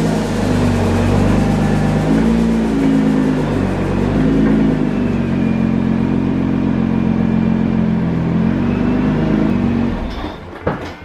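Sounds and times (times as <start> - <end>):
car engine revving and idling: 0.0 - 10.4.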